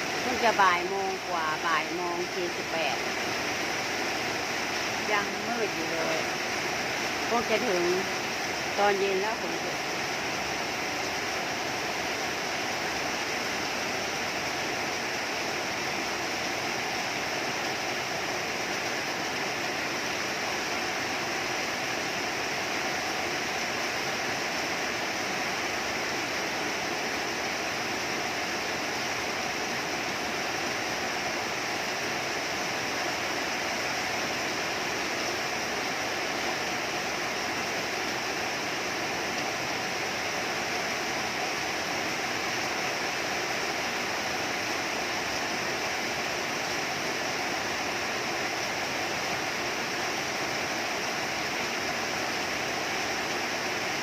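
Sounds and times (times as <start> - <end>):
steady rain downpour: 0.0 - 54.0.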